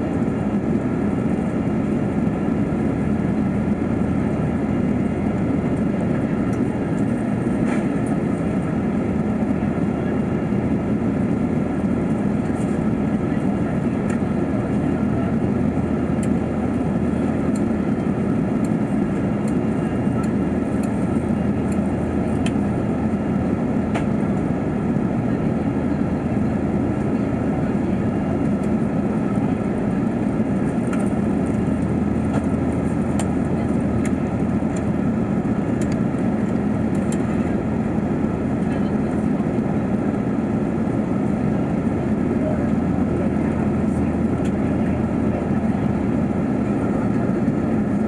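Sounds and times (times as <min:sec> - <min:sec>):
airplane cabin roar: 0:00.0 - 0:48.0.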